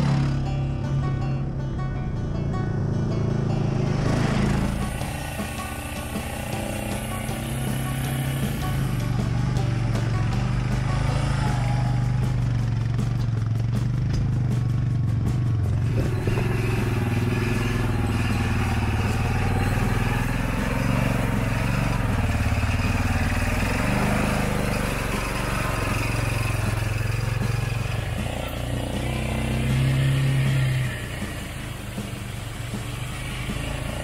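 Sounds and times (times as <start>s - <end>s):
atv engines running: 0.0s - 34.0s.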